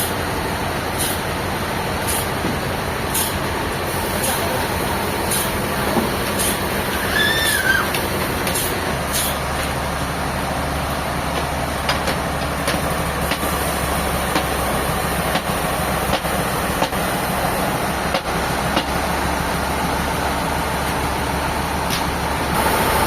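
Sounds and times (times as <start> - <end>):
sawmill machinery drone: 0.0 - 23.0.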